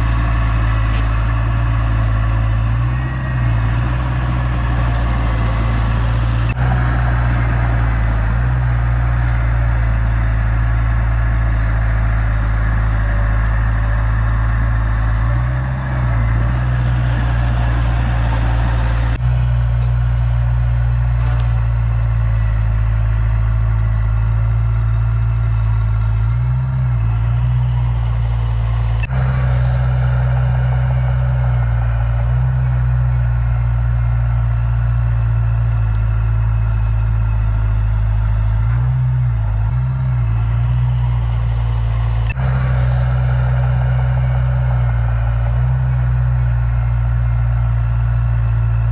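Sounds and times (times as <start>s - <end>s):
heavy diesel engine droning: 0.0s - 48.9s.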